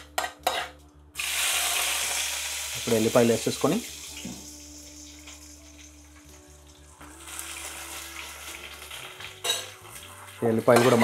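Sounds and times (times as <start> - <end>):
onions sizzling in oil: 1.2 - 11.0.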